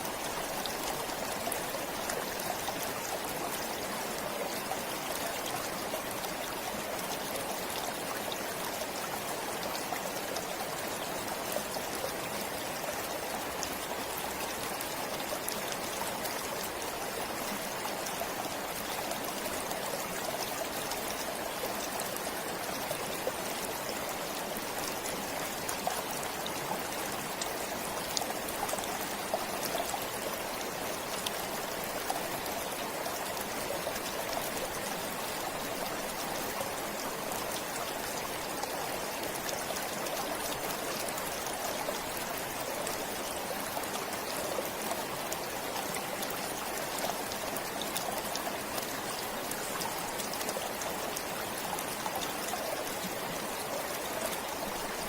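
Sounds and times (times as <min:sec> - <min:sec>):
stream flowing: 0:00.0 - 0:55.0
water trickling and splashing: 0:00.0 - 0:55.0.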